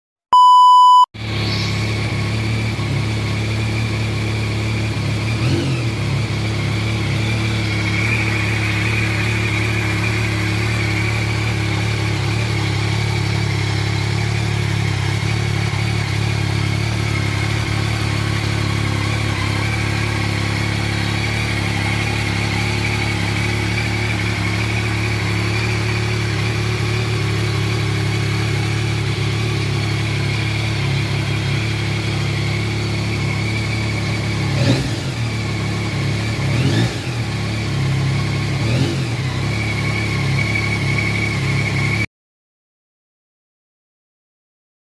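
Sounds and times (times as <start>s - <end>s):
motorcycle engine idling: 1.7s - 42.1s.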